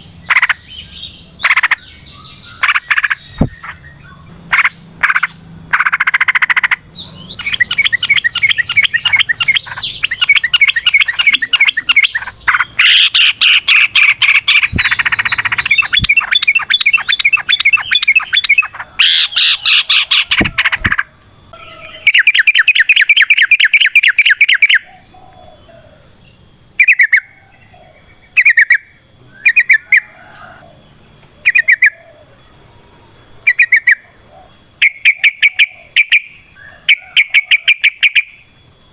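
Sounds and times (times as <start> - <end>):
bulbul singing chattering song: 0.0 - 38.9.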